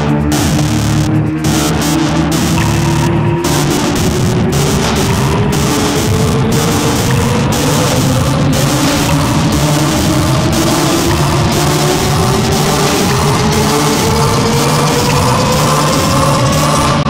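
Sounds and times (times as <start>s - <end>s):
electronic music with steady beat: 0.0s - 17.0s
rising tone: 0.0s - 17.0s.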